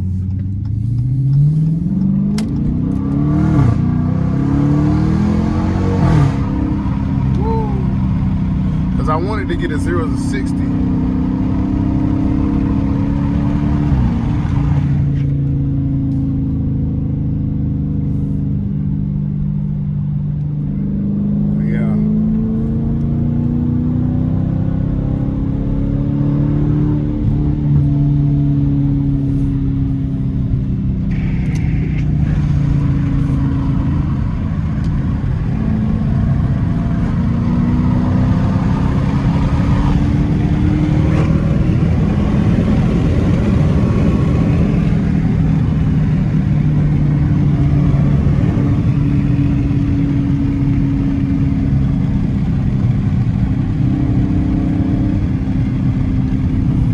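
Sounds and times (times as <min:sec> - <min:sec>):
car exhaust revving: 0:00.0 - 0:56.9.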